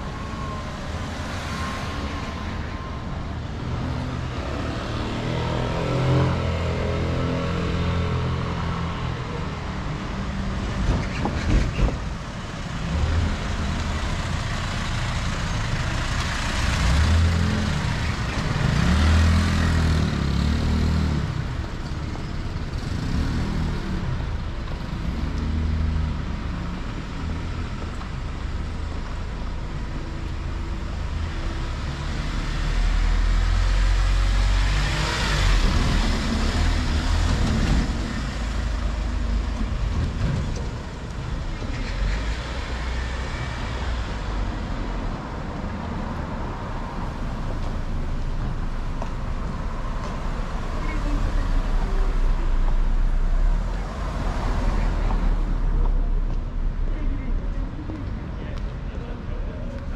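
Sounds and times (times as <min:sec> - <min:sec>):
cars and trucks driving past: 0:00.0 - 0:59.9
heavy low vehicle rumble: 0:08.4 - 0:59.9.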